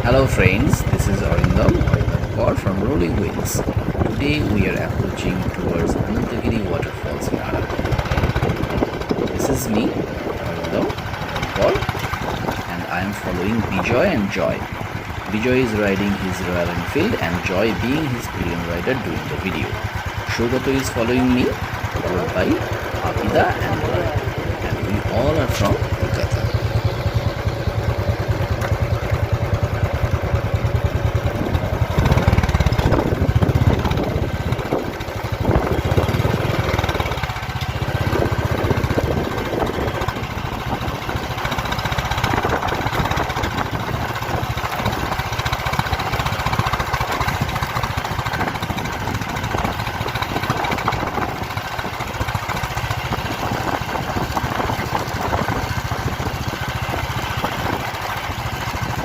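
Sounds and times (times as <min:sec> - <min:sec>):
motorcycle engine running: 0:00.0 - 0:59.0
riding wind noise: 0:00.0 - 0:59.0.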